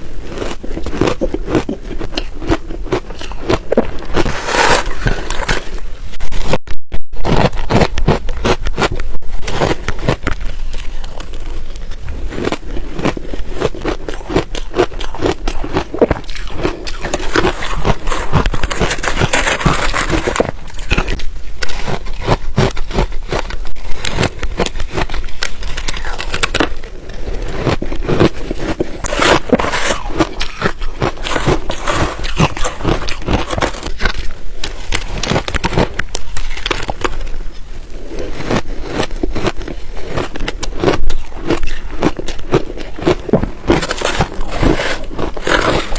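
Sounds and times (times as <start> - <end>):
ice crunching while chewed: 0.0 - 6.6, 7.2 - 45.9.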